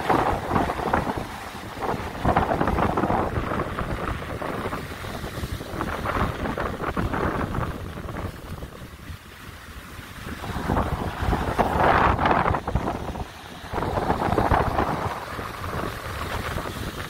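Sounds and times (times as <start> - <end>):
heavy surf breaking: 0.0 - 17.0
wind buffeting microphone: 0.0 - 17.0.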